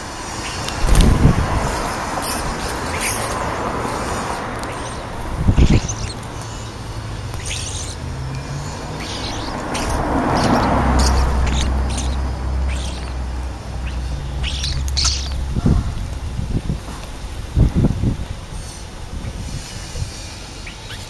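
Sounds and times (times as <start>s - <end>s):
starlings chirping and clicking: 0.0s - 17.5s, 18.5s - 21.0s
outdoor noise: 0.0s - 21.0s.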